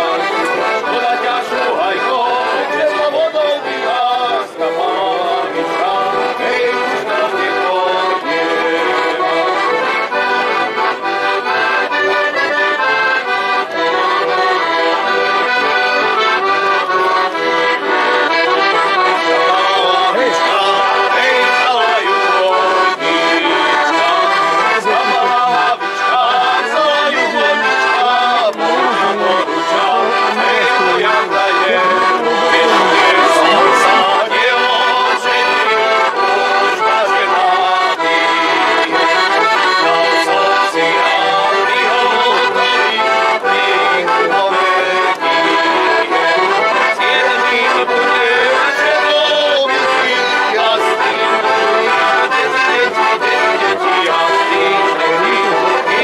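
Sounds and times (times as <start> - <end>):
accordion folk music: 0.0 - 56.0.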